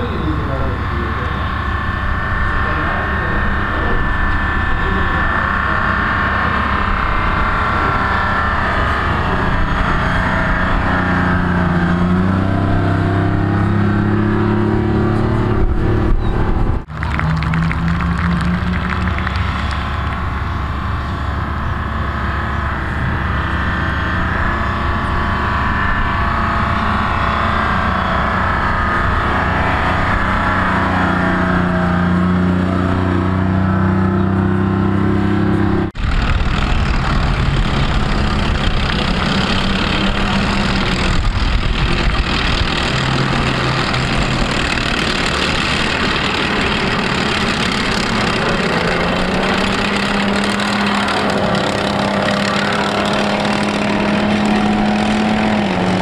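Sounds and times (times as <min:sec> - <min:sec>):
military vehicle engines running: 0:00.0 - 0:56.0.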